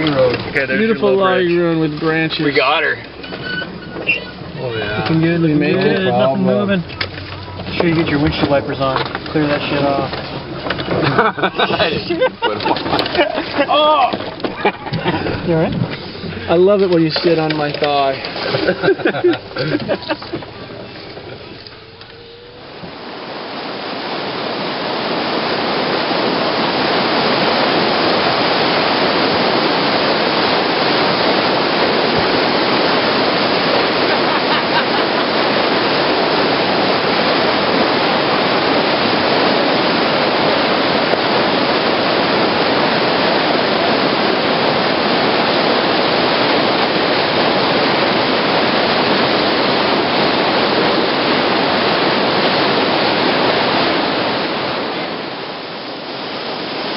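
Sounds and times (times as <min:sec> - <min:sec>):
whitewater rapids roaring: 0:00.0 - 0:56.9.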